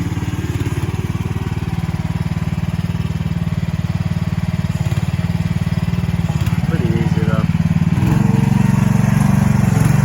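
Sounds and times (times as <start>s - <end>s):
excavator engine running: 0.0s - 10.0s.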